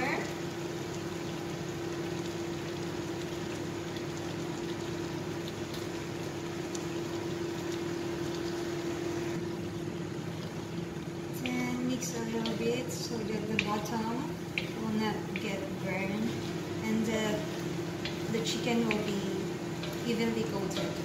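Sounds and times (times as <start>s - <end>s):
food simmering with bubbling pops: 0.0s - 21.0s
steady hum and hiss: 0.0s - 21.0s.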